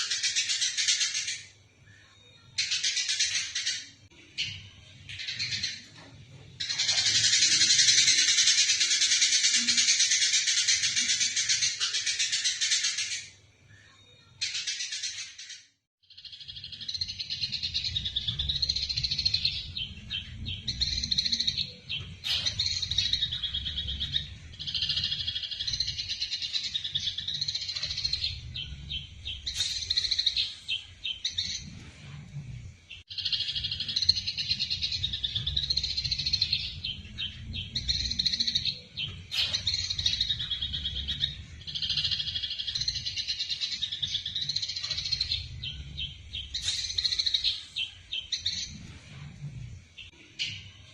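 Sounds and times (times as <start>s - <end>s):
sparrows chirping: 0.0s - 50.9s.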